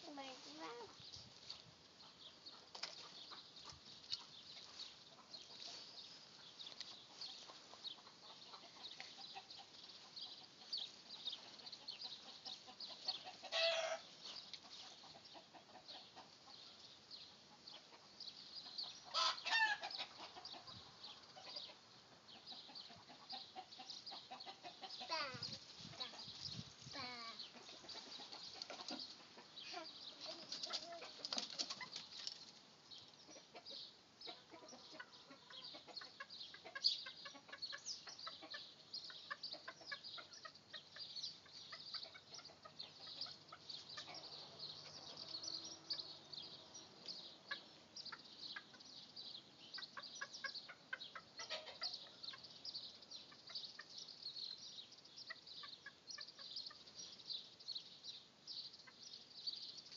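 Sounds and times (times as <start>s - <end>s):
chickens clucking faintly: 0.0s - 59.9s.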